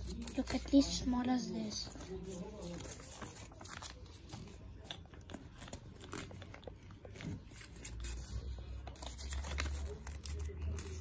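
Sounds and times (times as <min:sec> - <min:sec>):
paper being folded and creased: 0:00.0 - 0:11.0.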